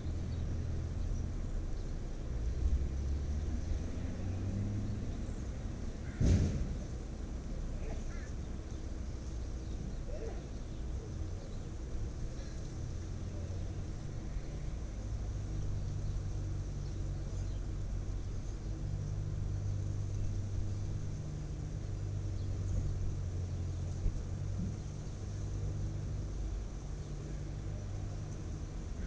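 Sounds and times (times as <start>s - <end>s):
light rumble: 0.0s - 29.0s.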